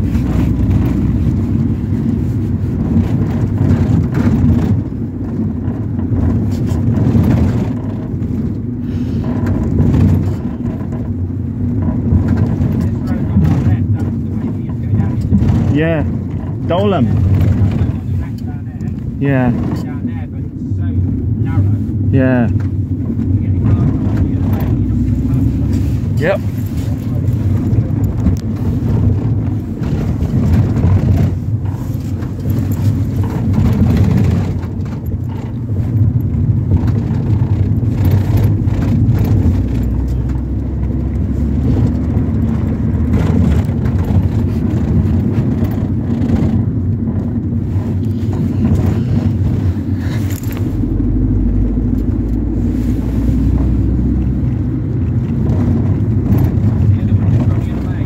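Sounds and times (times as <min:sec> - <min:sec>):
engine and road rumble: 0:00.0 - 0:58.0
small rattles and knocks: 0:00.0 - 0:58.0.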